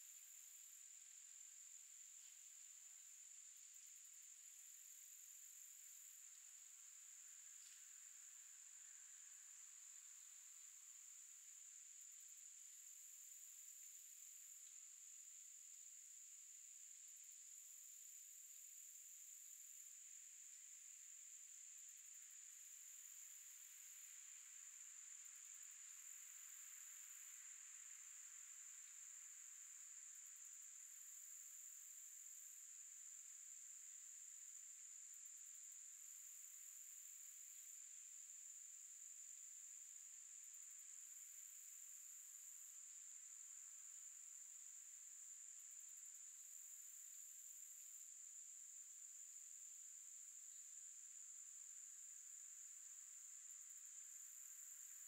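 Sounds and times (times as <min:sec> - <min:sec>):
insect high-pitched trill: 0:00.0 - 0:55.0.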